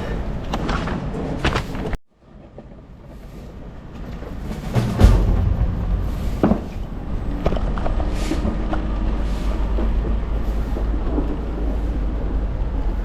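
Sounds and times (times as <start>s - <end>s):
city street rumble: 0.0s - 13.0s.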